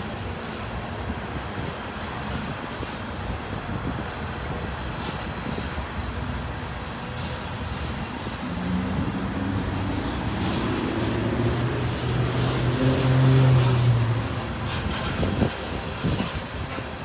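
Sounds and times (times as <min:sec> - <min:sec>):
diesel locomotive engines droning: 0:00.0 - 0:17.0.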